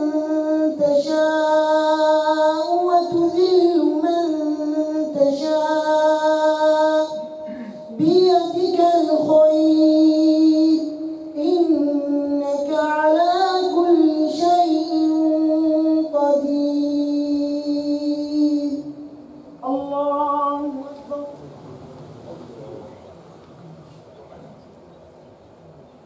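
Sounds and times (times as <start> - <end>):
man chanting recitation: 0.0 - 23.4.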